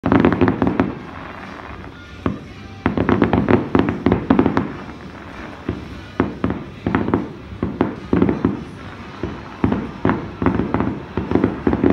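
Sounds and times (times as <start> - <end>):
fireworks bangs and crackles: 0.0 - 11.9.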